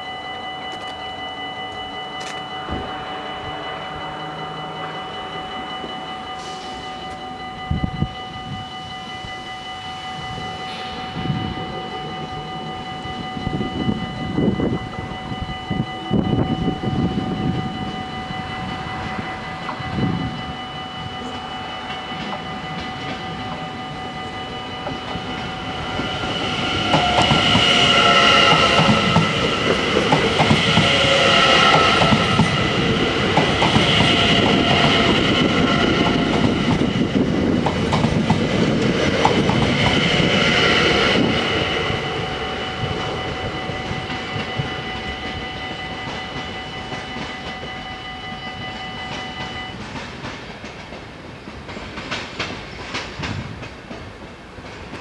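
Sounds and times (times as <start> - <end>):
level crossing bells ringing: 0.0 - 50.0
train rumble and wheel clicks: 0.0 - 55.0.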